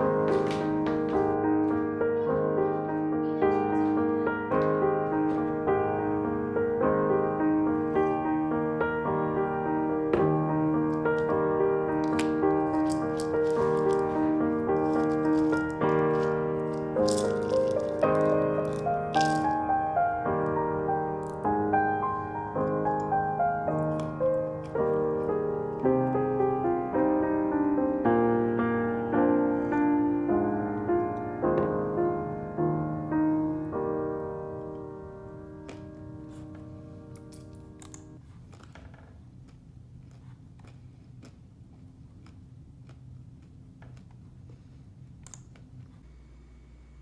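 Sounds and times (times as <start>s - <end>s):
soft piano chords: 0.0s - 38.3s.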